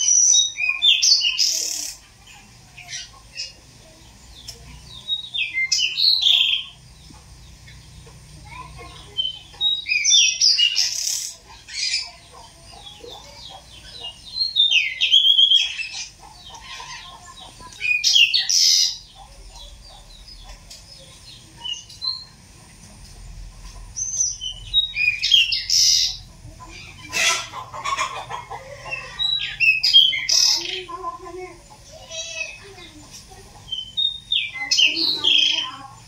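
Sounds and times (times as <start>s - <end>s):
bird singing chattering phrases: 0.0s - 36.0s.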